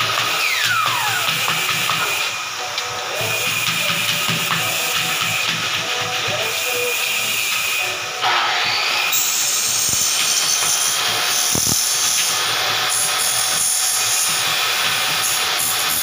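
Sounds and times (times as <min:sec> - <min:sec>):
power tool running: 0:00.0 - 0:16.0.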